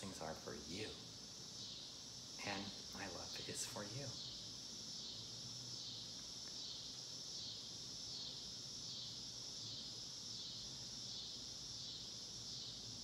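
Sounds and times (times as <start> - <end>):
shrill pulsing insect chorus: 0.0 - 13.0.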